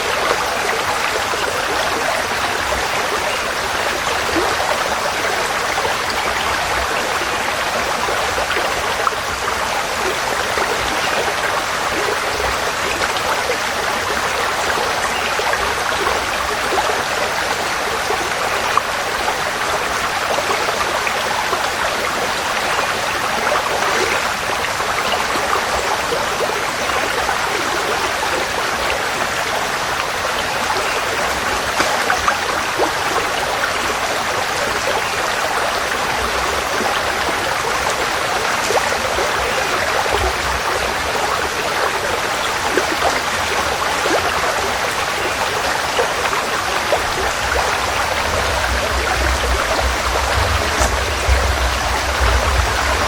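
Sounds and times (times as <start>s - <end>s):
forest stream flowing: 0.0s - 53.0s.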